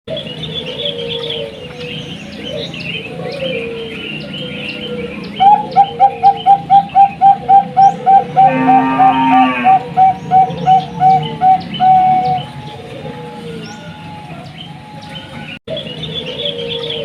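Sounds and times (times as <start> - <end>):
doves cooing: 0.1 - 17.0.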